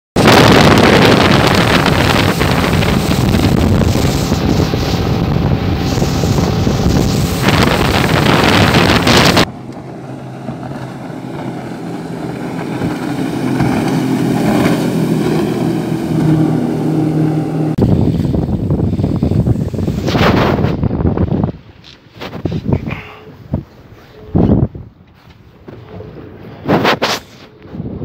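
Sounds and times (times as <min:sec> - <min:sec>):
wind noise on microphone: 0:00.2 - 0:09.6, 0:10.5 - 0:28.0
motorboat engine at speed: 0:00.2 - 0:21.8, 0:23.0 - 0:28.0
outboard engine hum: 0:00.2 - 0:28.0.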